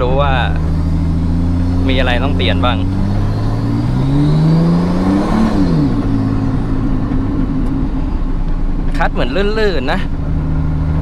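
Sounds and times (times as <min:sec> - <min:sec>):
car engine and exhaust revving: 0:00.0 - 0:11.0.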